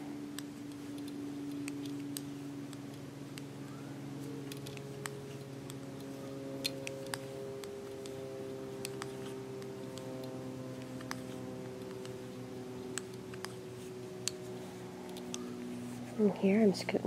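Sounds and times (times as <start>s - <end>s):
faint steady hum: 0.0s - 17.0s
knitting needles clicking: 0.3s - 3.6s, 4.2s - 16.0s.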